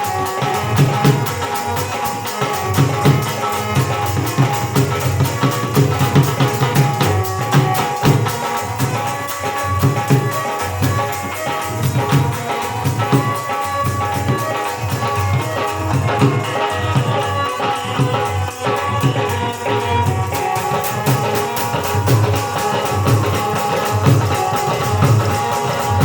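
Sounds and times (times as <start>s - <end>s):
hand drums beating: 0.0s - 26.0s.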